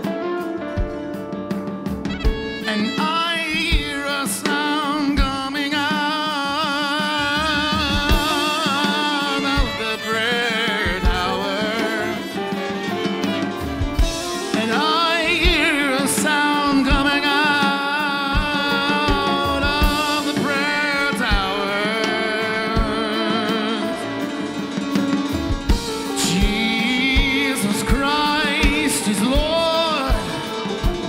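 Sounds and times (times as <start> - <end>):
drum kit: 0.0 - 31.0
worship band playing: 0.0 - 31.0
person singing: 2.2 - 31.0.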